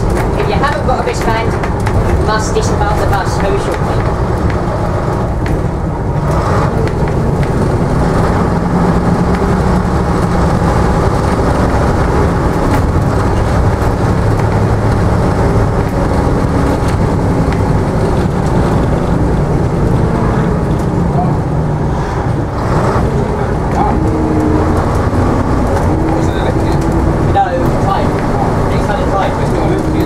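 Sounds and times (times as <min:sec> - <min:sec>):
bus diesel engine running: 0:00.0 - 0:30.0
road noise: 0:00.0 - 0:30.0.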